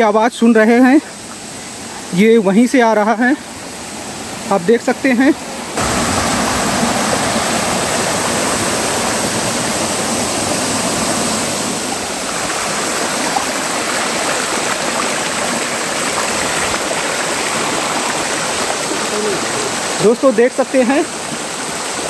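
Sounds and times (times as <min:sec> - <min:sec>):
stream running over stones: 0:00.0 - 0:22.0.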